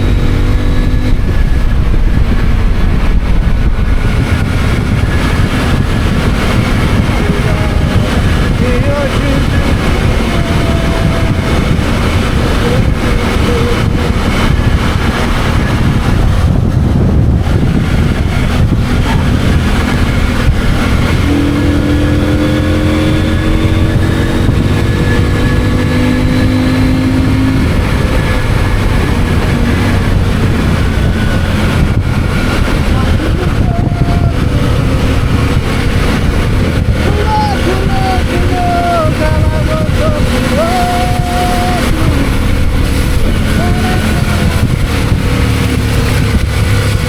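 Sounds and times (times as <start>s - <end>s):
motorcycle engine running: 0.0s - 47.0s
wind rushing on microphone: 0.0s - 47.0s.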